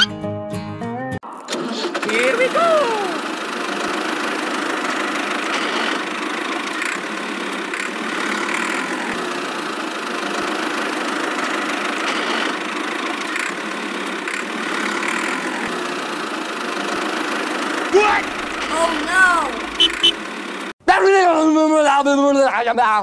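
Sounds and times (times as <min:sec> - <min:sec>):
toy tractor motor buzzing: 0:01.5 - 0:20.7.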